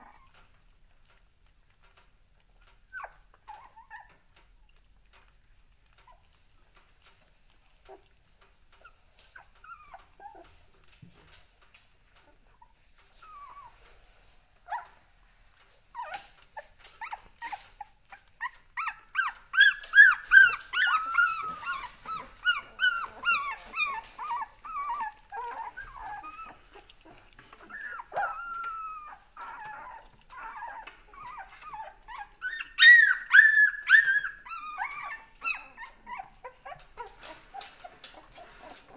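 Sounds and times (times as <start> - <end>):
puppies whimpering and squeaking: 0.0 - 38.9.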